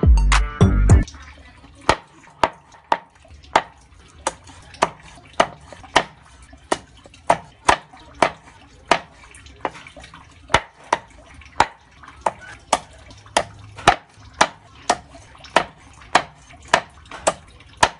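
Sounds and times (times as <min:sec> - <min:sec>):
knife chopping on wooden board: 0:01.9 - 0:17.9.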